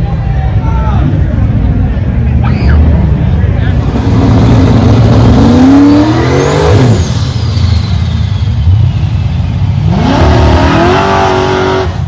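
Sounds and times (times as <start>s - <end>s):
low engine rumble: 0.0s - 10.7s
car engine accelerating: 1.0s - 12.0s.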